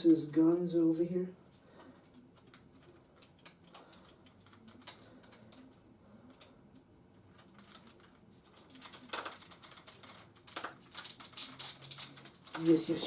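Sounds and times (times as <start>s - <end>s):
plastic parts clicking: 1.9s - 13.0s.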